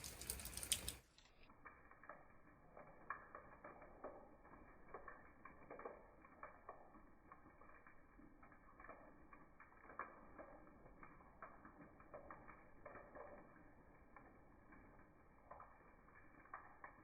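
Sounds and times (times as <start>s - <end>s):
light rain and snow pattering: 0.0s - 17.0s.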